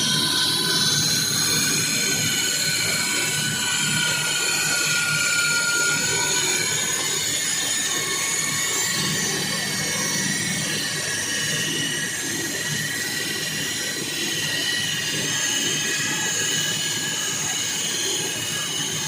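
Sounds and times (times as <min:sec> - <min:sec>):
high wavering squealing: 0:00.0 - 0:19.0
saw motor running: 0:00.0 - 0:19.0.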